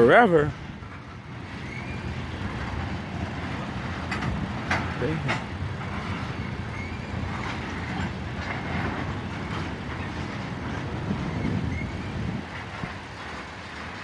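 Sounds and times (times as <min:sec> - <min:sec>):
low train rumble: 0:00.0 - 0:14.0
train wheels clicking over rail joints: 0:00.5 - 0:14.0.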